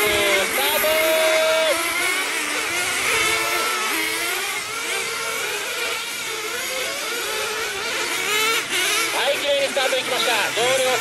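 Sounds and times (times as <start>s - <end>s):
small engines revving: 0.0s - 11.0s.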